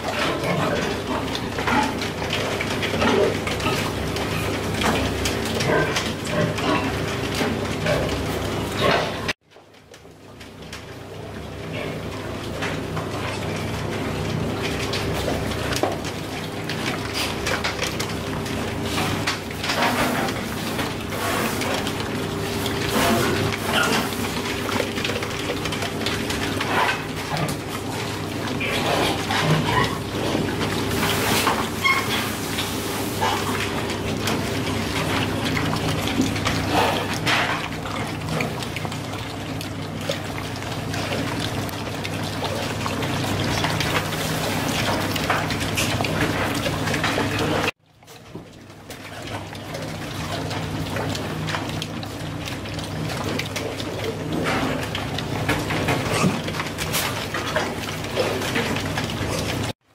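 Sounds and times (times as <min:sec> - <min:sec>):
piglets rattling a feeder: 0:00.0 - 0:59.8.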